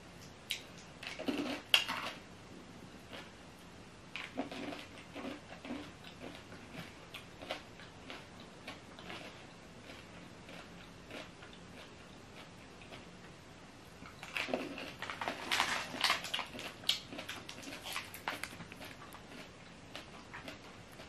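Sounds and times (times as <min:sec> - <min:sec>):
chewing crunchy candy: 0:00.5 - 0:02.2, 0:04.2 - 0:13.1, 0:14.0 - 0:21.0.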